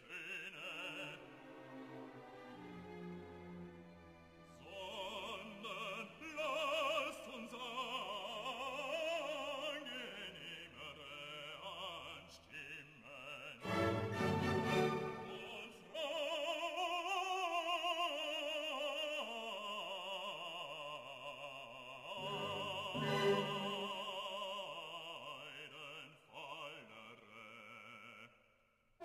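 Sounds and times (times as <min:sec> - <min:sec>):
person singing operatically: 0:04.6 - 0:27.9.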